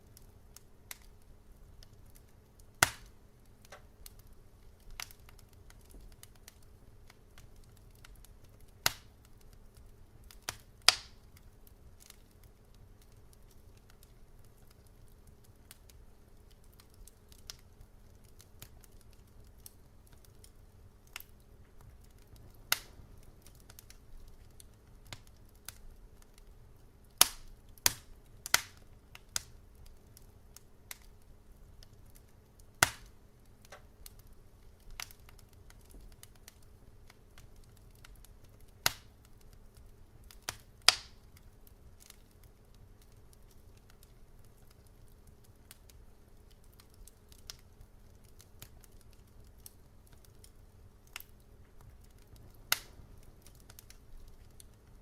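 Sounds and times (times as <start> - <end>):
fire low rumble: 0.0 - 55.0
wood fire crackling and popping: 0.0 - 55.0.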